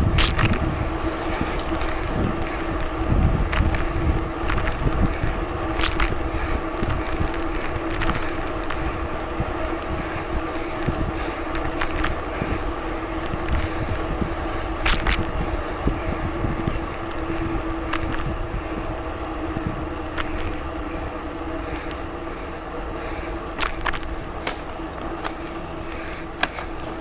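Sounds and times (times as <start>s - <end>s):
bicycle tyres on trail: 0.0s - 27.0s
bike clicks and rattles: 0.0s - 27.0s.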